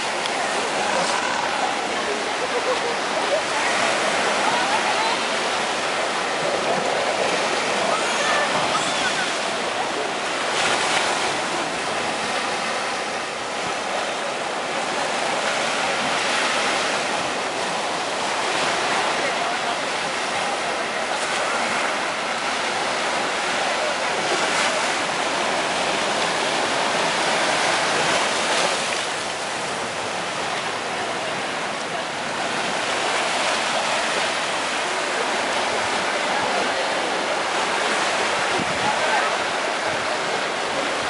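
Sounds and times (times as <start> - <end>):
ocean surf on beach: 0.0 - 41.0.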